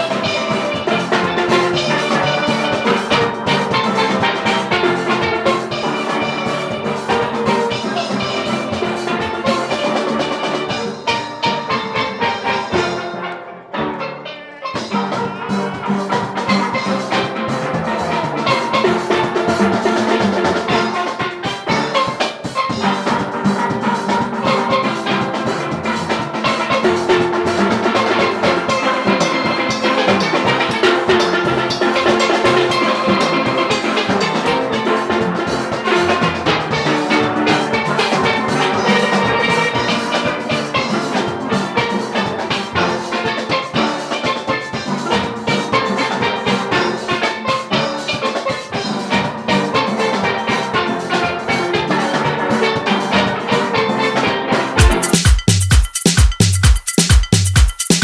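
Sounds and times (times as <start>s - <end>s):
upbeat band music: 0.0s - 58.0s.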